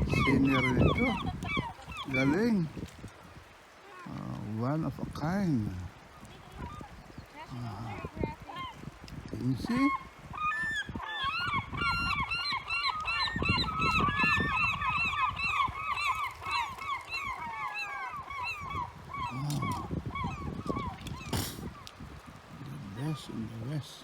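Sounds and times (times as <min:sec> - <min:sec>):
gulls calling: 0:00.0 - 0:24.0.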